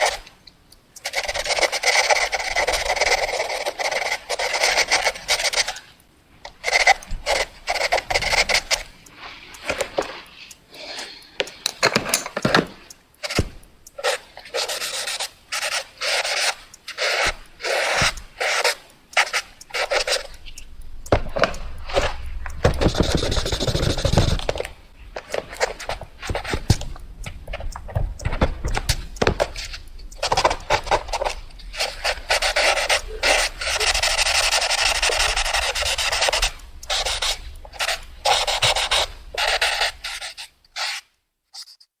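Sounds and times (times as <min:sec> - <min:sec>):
pen scratching on paper: 0:00.0 - 0:00.2, 0:01.0 - 0:05.9, 0:06.6 - 0:20.4, 0:21.1 - 0:41.8.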